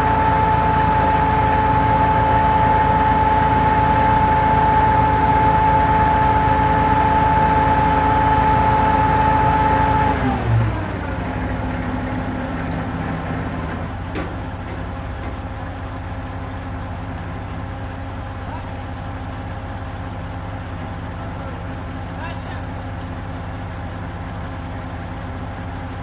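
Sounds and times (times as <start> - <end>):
crane engine whining: 0.0 - 26.0.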